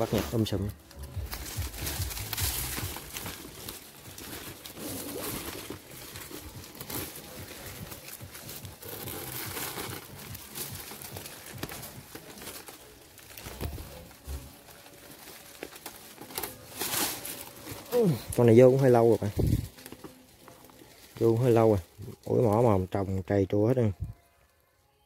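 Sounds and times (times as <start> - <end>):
plastic sack crinkling: 0.0 - 24.5
dry leaves and twigs rustling: 0.0 - 24.6.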